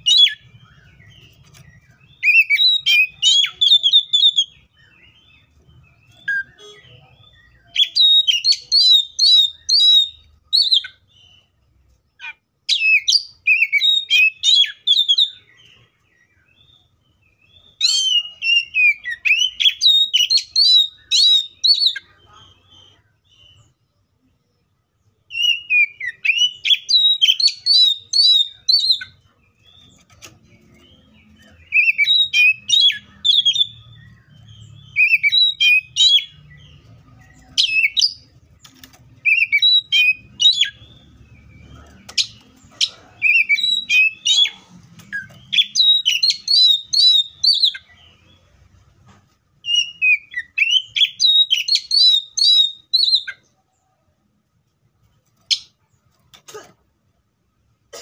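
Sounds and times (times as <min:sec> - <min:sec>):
bird singing whistles and chirps: 0:00.0 - 0:11.6, 0:12.2 - 0:23.8, 0:25.3 - 0:48.4, 0:49.6 - 0:53.6.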